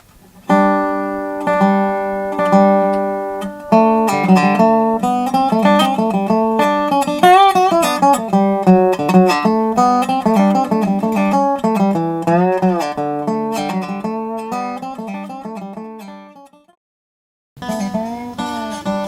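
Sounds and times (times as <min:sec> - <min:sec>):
resonator guitar playing: 0:00.0 - 0:16.8, 0:17.6 - 0:19.0.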